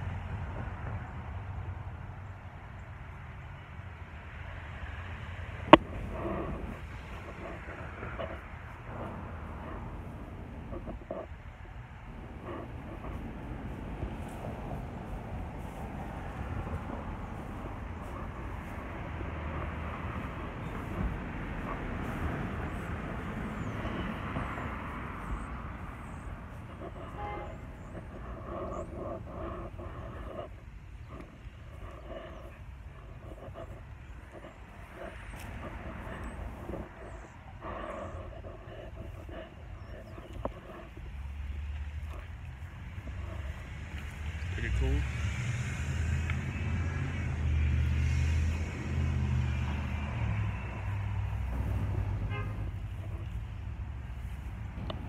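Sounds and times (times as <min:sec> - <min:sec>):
passing vehicle rumble: 0:00.0 - 0:55.0.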